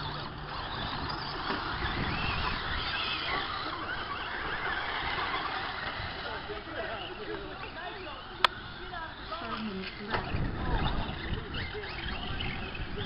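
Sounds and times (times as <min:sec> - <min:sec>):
rc truck motors: 0:00.0 - 0:13.0
steady rushing noise: 0:00.0 - 0:13.0.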